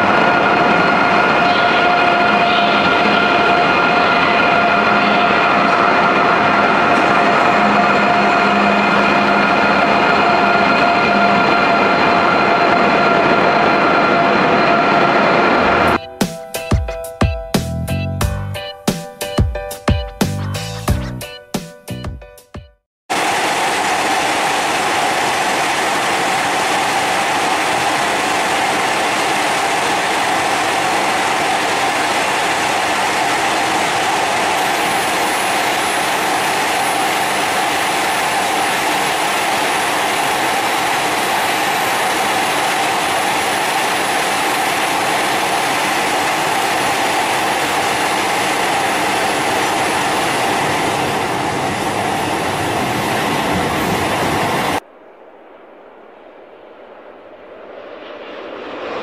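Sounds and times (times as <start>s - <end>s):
train running past: 0.0s - 18.0s, 23.1s - 59.0s.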